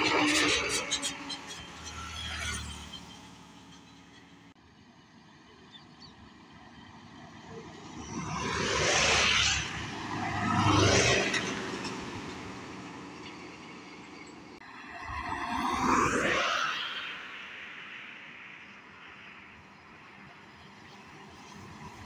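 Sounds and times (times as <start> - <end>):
heavy lorry passing: 0.0 - 17.9
vehicles passing on highway: 0.0 - 22.0.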